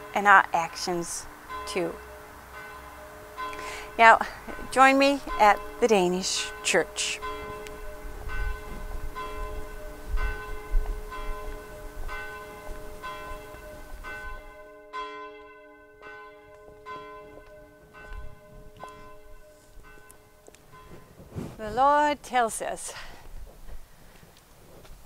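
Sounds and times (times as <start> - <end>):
church bell tolling: 1.1 - 21.2.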